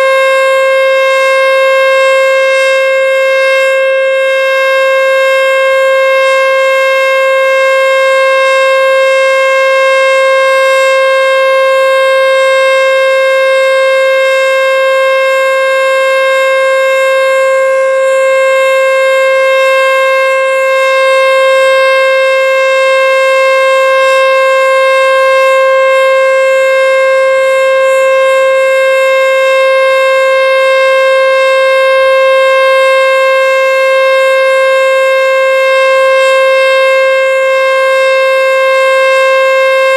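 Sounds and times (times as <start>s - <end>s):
storm siren steady tone: 0.0s - 39.9s.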